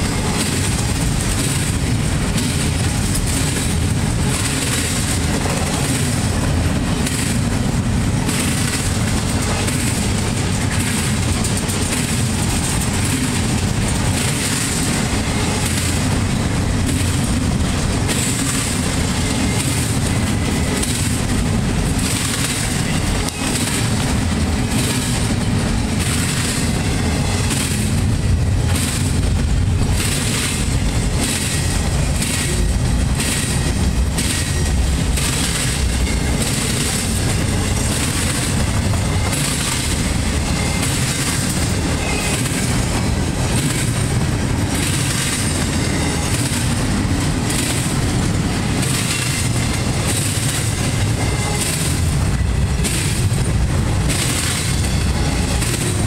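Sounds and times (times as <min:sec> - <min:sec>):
freight train wheels rumbling: 0:00.0 - 0:56.0
wheels clacking over track joints: 0:00.0 - 0:56.0.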